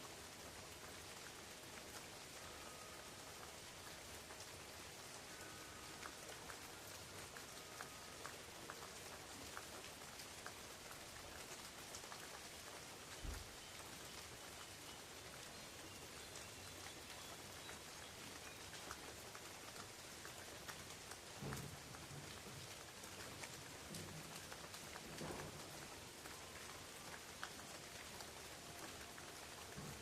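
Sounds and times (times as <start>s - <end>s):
soft rain on leaves: 0.0s - 30.0s.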